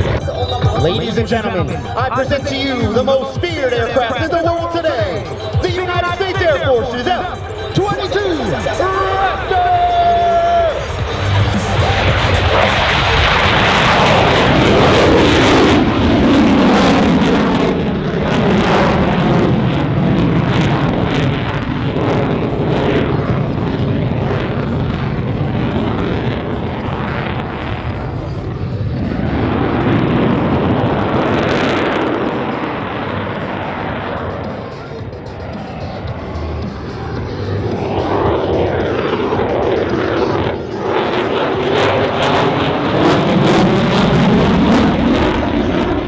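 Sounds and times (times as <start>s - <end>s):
jet engines roaring: 0.0s - 46.0s.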